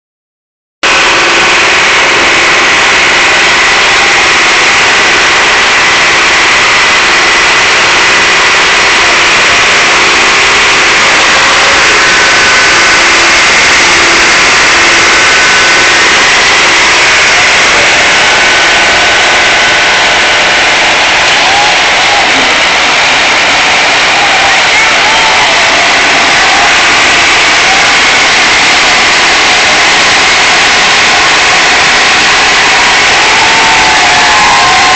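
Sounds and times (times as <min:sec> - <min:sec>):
tractor engine running: 0:00.8 - 0:34.9.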